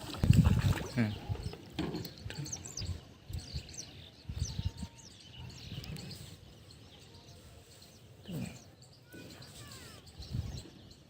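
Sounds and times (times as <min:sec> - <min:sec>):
small birds chirping: 0:00.3 - 0:11.0.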